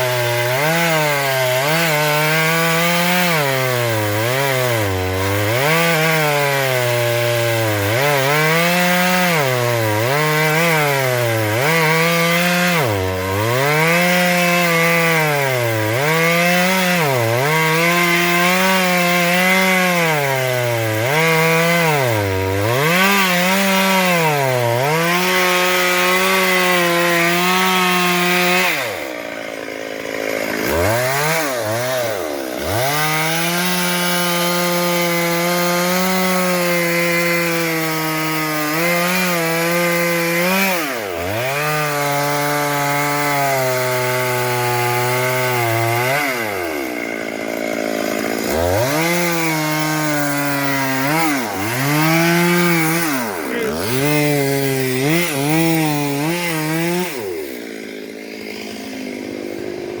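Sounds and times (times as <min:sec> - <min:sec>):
chainsaw cutting tree trunk: 0:00.0 - 1:00.0.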